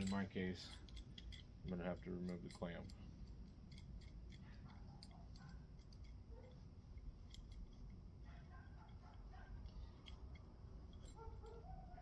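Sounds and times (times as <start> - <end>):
small metallic clicks: 0.0 - 12.0.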